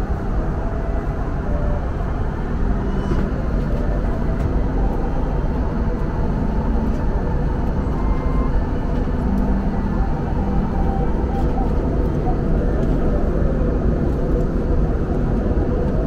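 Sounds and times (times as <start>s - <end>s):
airliner cabin engine rush: 0.0s - 16.0s.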